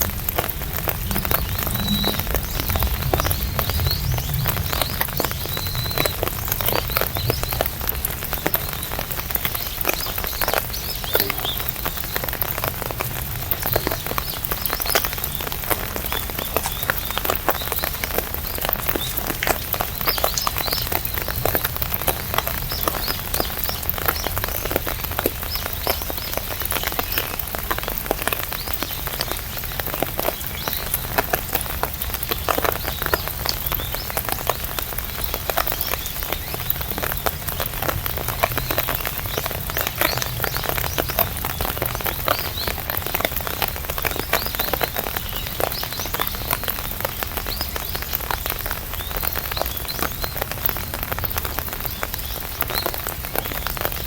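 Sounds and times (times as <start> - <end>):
rain pattering on umbrella: 0.0 - 54.0.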